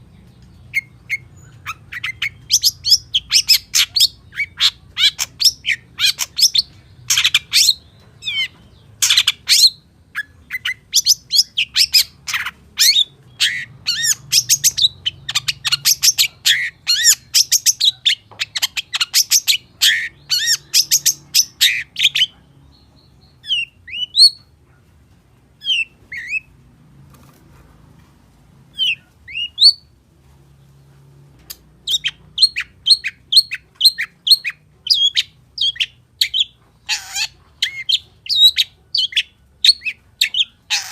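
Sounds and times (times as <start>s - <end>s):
bird singing chattering song: 0.0s - 24.5s, 25.6s - 26.5s, 28.7s - 29.9s, 31.5s - 40.9s.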